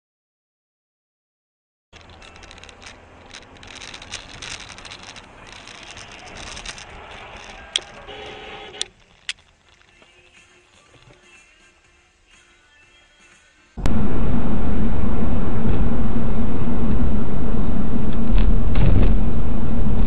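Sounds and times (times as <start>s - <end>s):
road and engine noise in car: 2.0s - 12.3s, 13.7s - 20.0s.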